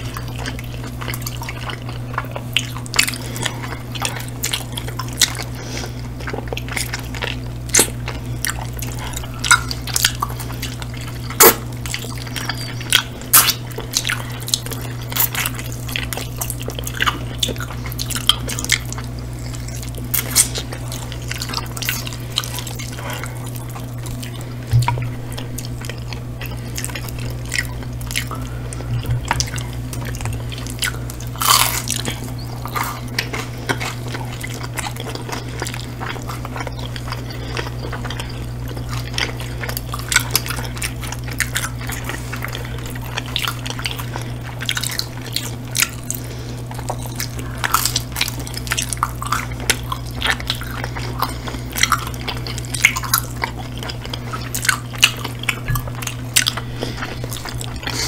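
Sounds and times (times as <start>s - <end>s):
low hum: 0.0s - 58.0s
wet chewing and lip smacks: 0.0s - 58.0s.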